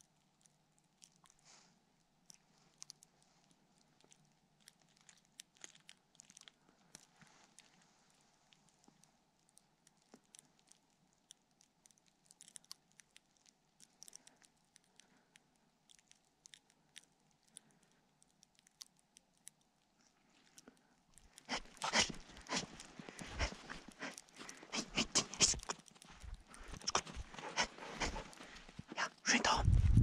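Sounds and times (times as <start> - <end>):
small clicks and crackles: 0.0 - 29.3.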